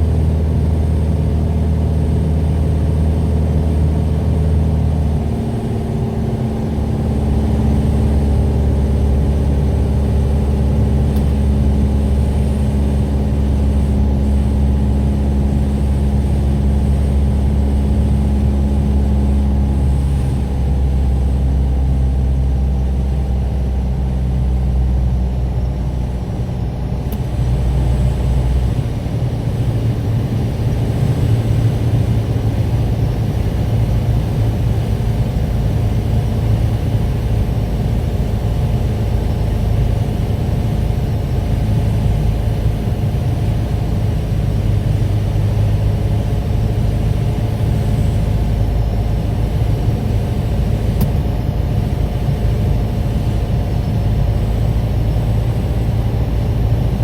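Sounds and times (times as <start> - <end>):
aircraft engine and propeller: 0.0 - 57.0.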